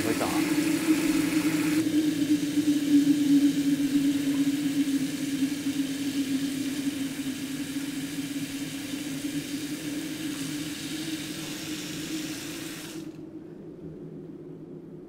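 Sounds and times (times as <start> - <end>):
running water rushing: 0.0 - 13.2
low hum: 0.0 - 15.0.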